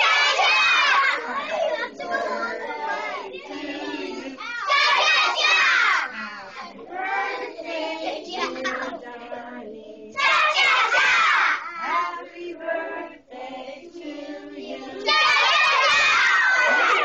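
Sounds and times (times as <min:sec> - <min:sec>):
young children singing: 0:00.0 - 0:17.0.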